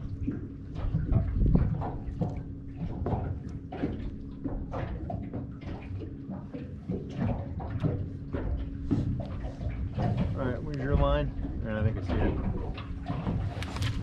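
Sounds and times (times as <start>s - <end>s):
water lapping against metal hull: 0.0s - 14.0s.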